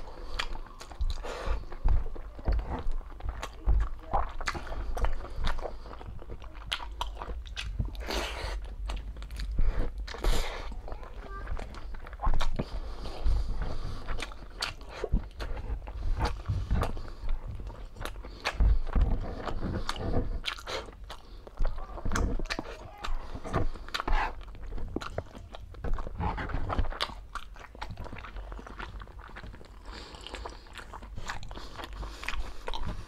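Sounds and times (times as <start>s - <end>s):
mouth clicks and smacks: 0.0s - 33.0s
person chewing food: 0.0s - 33.0s.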